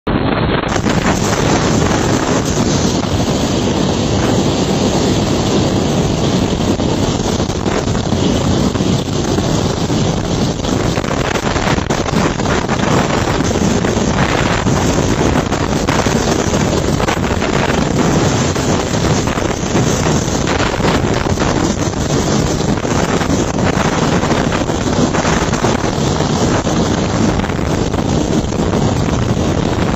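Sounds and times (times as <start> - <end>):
wind buffeting microphone: 0.1 - 29.9.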